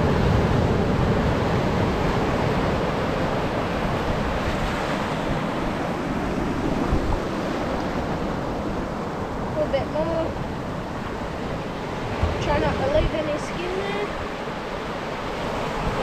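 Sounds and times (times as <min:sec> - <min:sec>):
small waves breaking on sand and rocks: 0:00.0 - 0:16.0
wind buffeting microphone: 0:00.0 - 0:16.0.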